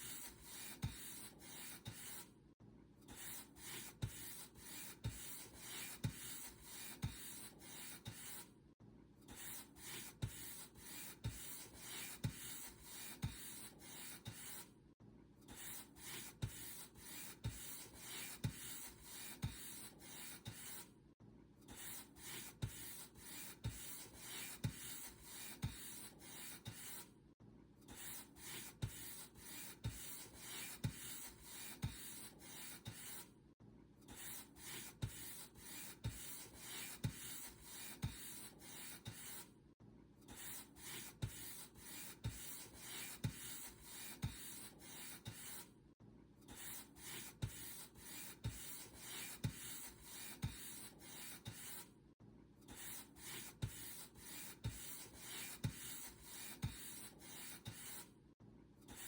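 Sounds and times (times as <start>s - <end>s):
paint brush stroking a surface: 3.2s - 8.5s, 9.4s - 14.7s, 15.6s - 20.8s, 21.8s - 27.1s, 28.0s - 33.3s, 34.1s - 39.5s, 40.3s - 45.7s, 46.5s - 51.9s, 52.7s - 58.1s.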